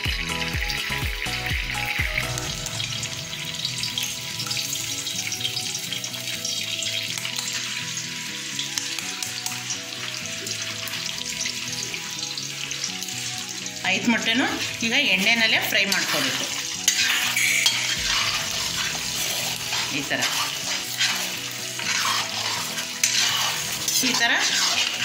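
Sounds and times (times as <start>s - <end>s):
eggs sizzling in oil: 0.0s - 25.0s.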